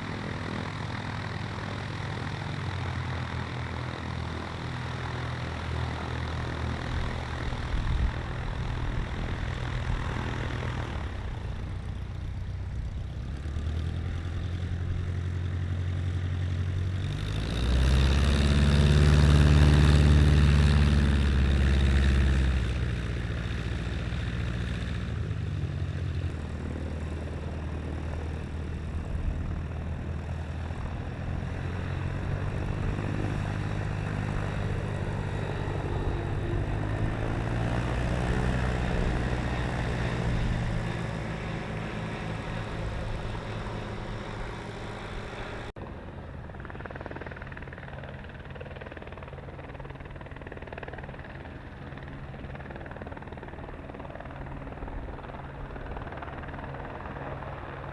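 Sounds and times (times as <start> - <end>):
light aircraft engine and propeller: 0.0 - 57.9.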